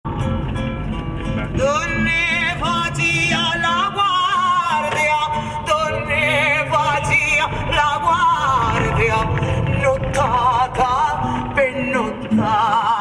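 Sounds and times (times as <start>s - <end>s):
person singing with vibrato: 1.6s - 13.0s.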